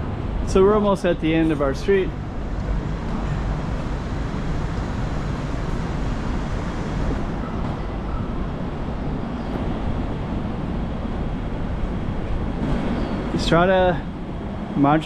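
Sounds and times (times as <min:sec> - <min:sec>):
traffic rumbling: 0:00.0 - 0:15.0.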